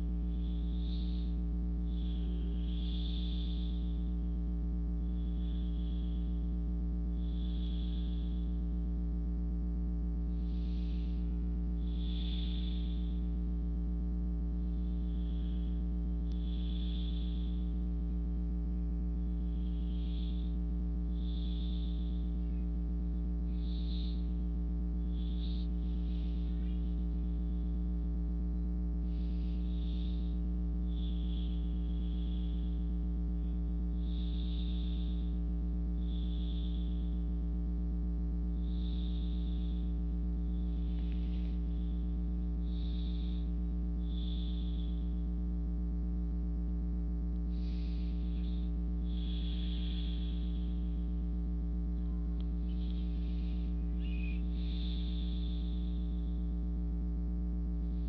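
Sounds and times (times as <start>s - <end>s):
electrical hum: 0.0s - 58.0s
soft breaths: 0.3s - 9.0s, 10.1s - 37.4s, 38.5s - 45.7s, 47.4s - 58.0s.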